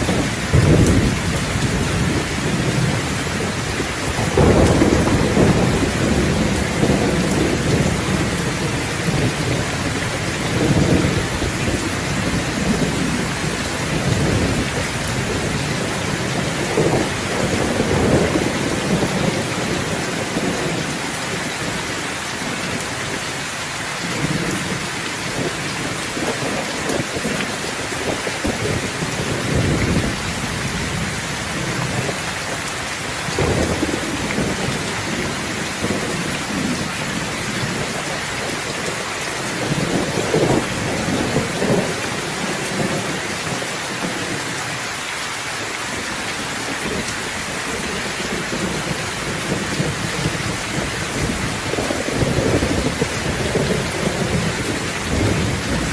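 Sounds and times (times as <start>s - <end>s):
thunder rumbling: 0.0s - 23.4s, 24.0s - 44.8s, 45.9s - 55.9s
heavy rain falling: 0.0s - 55.9s.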